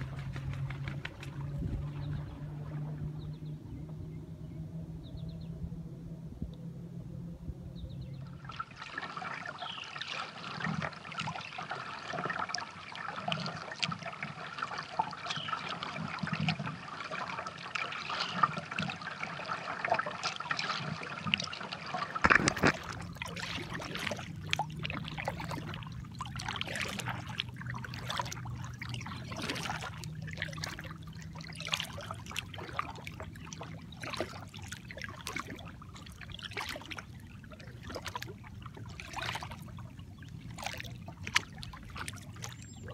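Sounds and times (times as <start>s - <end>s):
paddle splashing and dripping: 0.0s - 4.0s, 8.2s - 42.9s
water lapping against a kayak: 0.0s - 42.9s.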